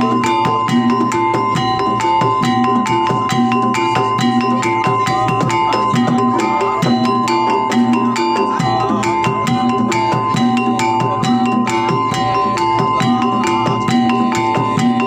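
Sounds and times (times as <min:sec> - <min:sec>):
fast dense drumming: 0:00.0 - 0:15.0
struck metal gamelan notes: 0:00.0 - 0:15.0.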